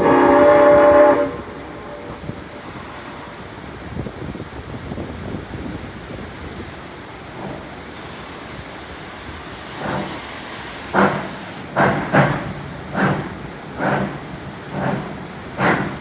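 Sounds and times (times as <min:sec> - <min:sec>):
steady rushing hiss: 0:00.0 - 0:16.0
steam locomotive chuffing: 0:00.0 - 0:16.0.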